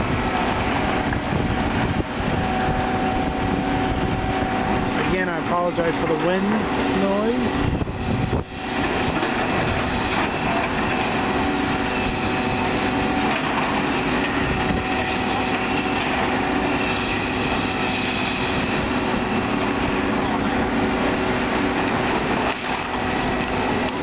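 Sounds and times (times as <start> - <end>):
excavator engine hum: 0.0 - 24.0
wind buffeting microphone: 0.0 - 24.0.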